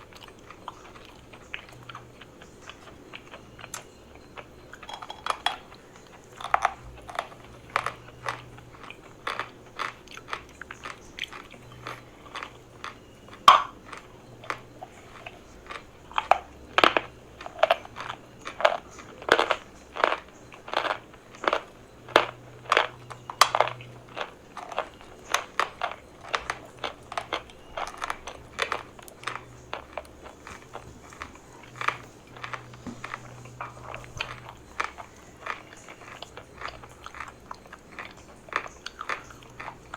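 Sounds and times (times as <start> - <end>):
crunching chalk while chewing: 0.0 - 39.9.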